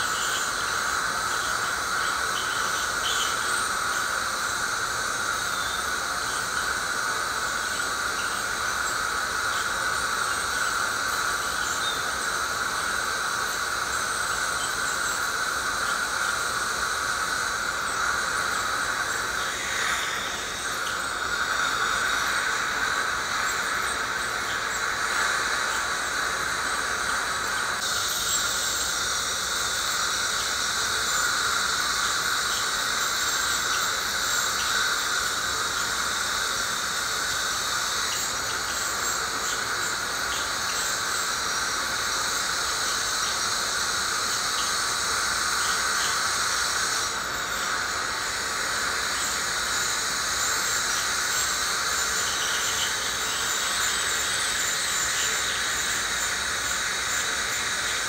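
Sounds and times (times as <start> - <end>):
ultrasonic dental scaler whine: 0.0 - 58.0.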